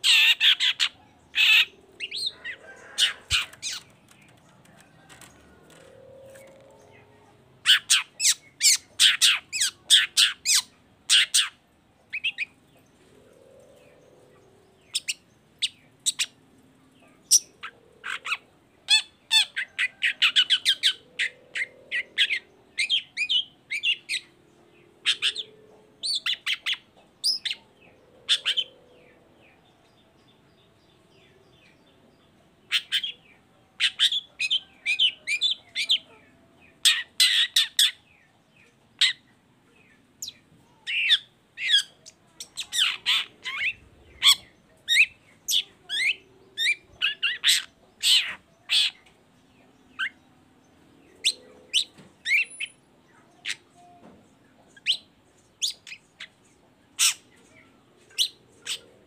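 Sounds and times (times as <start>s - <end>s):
bird chattering song: 0.0s - 12.6s, 13.6s - 29.2s, 29.9s - 59.0s.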